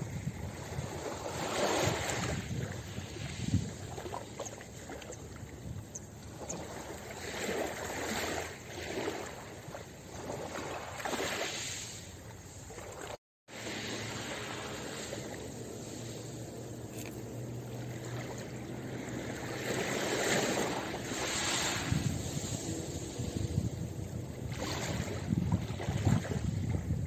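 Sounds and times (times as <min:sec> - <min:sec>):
waves washing over pebbles: 0:00.0 - 0:04.3, 0:06.6 - 0:27.0.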